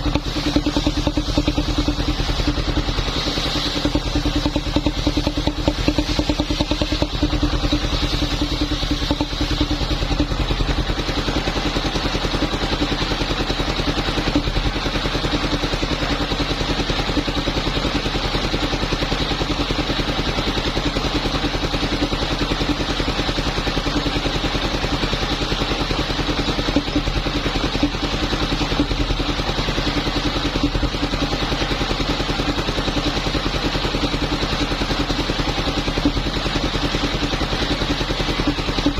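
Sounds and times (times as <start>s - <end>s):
wood saw engine running: 0.0s - 38.9s.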